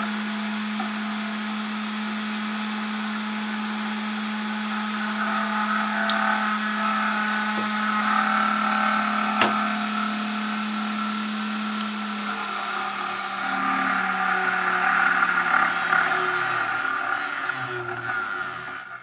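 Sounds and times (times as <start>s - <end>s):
rotor humming and whirring: 0.0s - 19.0s.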